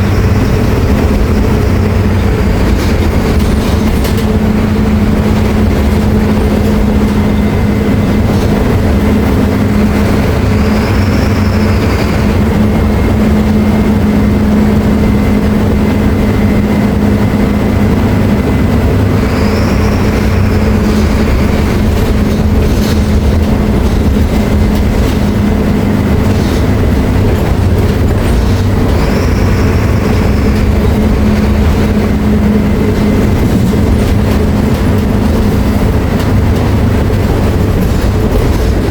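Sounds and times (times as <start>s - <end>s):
diesel bus engine drone: 0.0s - 38.9s.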